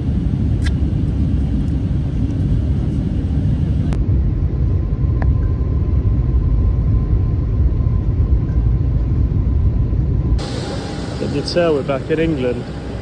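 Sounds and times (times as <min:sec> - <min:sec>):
airliner cabin rumble: 0:00.0 - 0:13.0
faint steady whine: 0:00.0 - 0:13.0.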